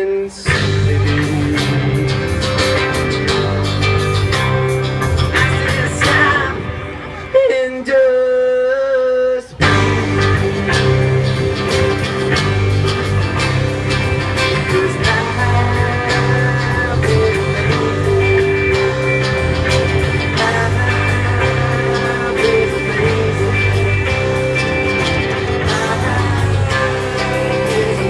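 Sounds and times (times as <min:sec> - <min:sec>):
rock band playing: 0:00.4 - 0:07.7, 0:09.5 - 0:28.0.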